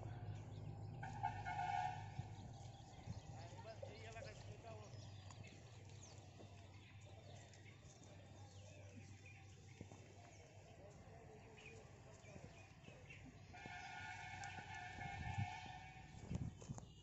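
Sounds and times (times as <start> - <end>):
small birds chirping: 0.0 - 15.6.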